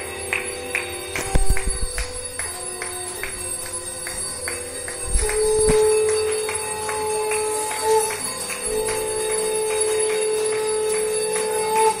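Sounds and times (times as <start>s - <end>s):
bells and metal struck: 0.0s - 12.0s
conch shell blown: 0.0s - 12.0s.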